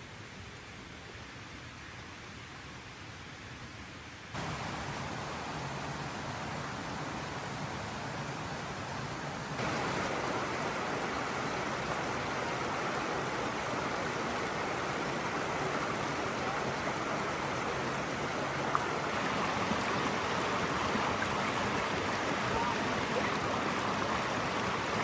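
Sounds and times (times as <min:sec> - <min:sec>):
flowing water: 0:04.4 - 0:25.0.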